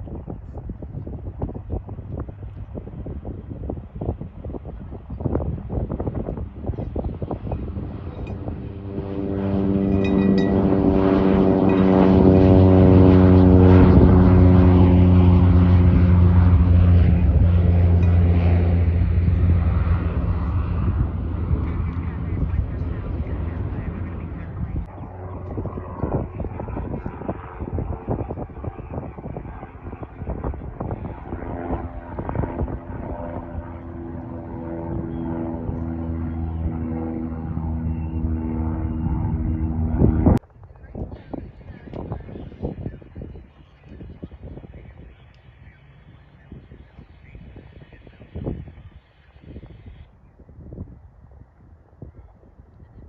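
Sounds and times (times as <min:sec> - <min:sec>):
propeller aircraft engine droning: 0:00.0 - 0:53.0
wind buffeting microphone: 0:00.0 - 0:53.0.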